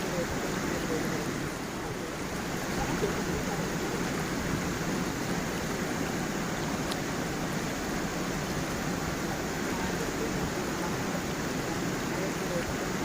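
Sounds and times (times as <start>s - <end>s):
water rushing in a stream: 0.0s - 13.0s.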